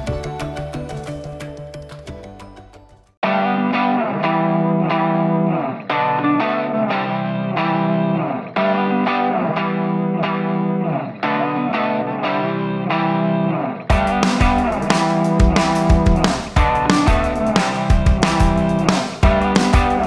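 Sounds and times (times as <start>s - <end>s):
electric guitar with effects: 3.2s - 20.0s.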